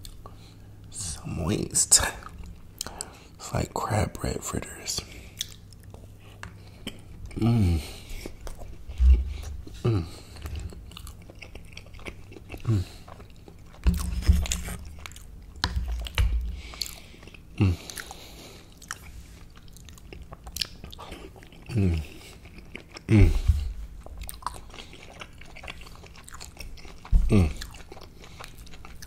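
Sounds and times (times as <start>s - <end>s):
close chewing and biting: 5.3s - 29.0s.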